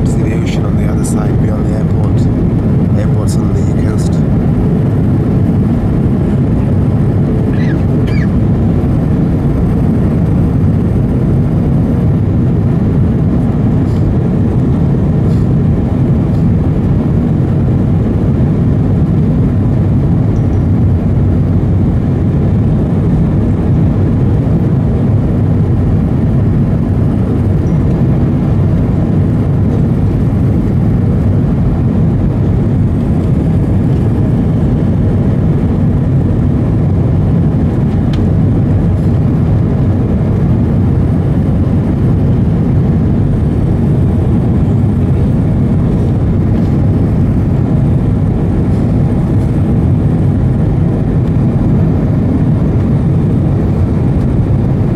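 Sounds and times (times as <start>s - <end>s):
airliner cabin engine roar: 0.0s - 54.9s.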